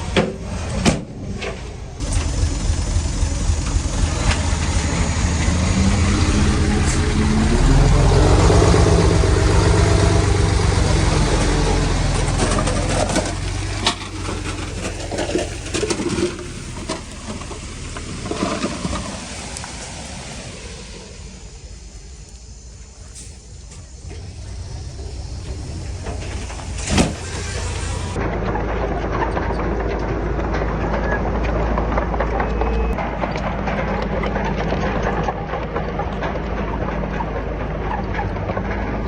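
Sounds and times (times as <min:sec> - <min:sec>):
heavy diesel engine revving: 0:01.7 - 0:39.0.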